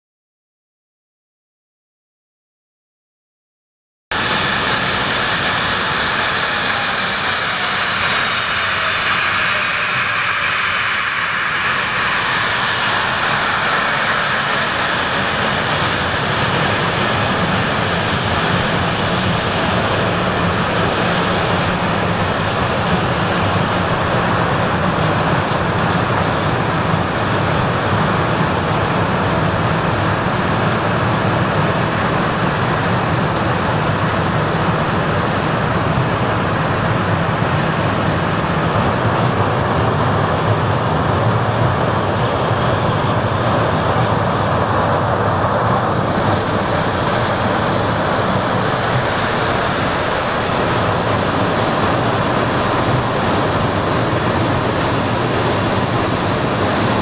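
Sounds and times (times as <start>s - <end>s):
jet engines roaring: 4.1s - 57.0s.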